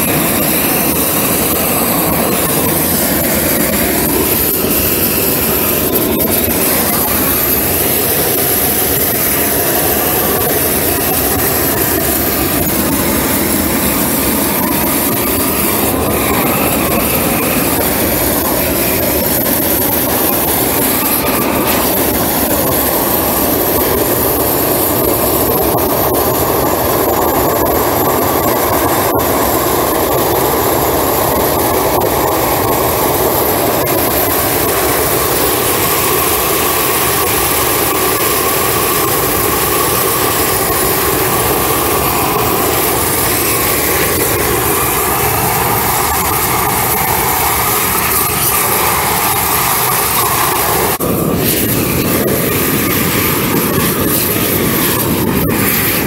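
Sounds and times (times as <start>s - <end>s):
propane torch rushing: 0.0s - 56.0s.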